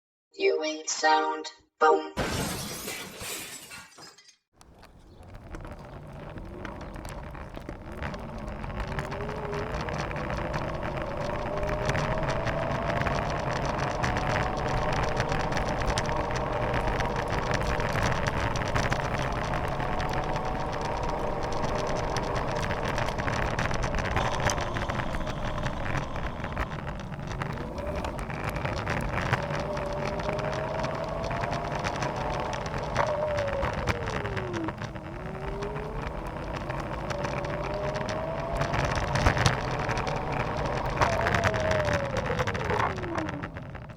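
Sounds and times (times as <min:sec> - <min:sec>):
electric scooter motor whine: 0:04.6 - 0:43.9
tyres rumbling on road: 0:04.6 - 0:43.9.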